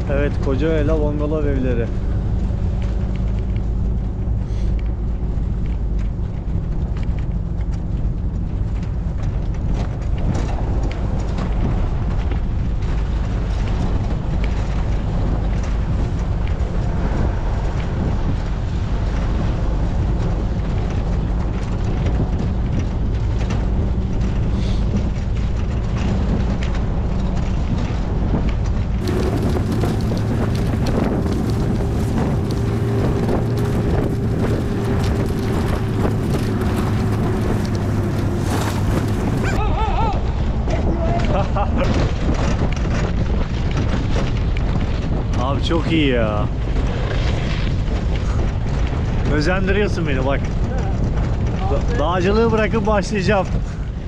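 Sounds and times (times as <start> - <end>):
road noise: 0.0 - 54.0
vehicle engine drone: 0.0 - 54.0.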